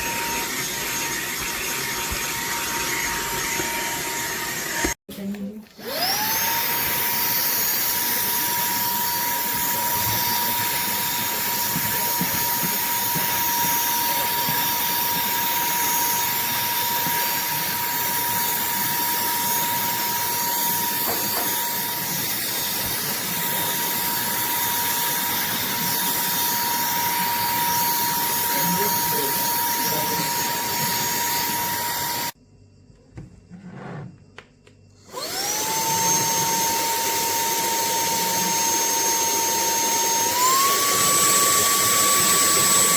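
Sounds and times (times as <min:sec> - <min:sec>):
handheld vacuum cleaner whine: 0:00.0 - 0:32.4, 0:33.2 - 0:42.9.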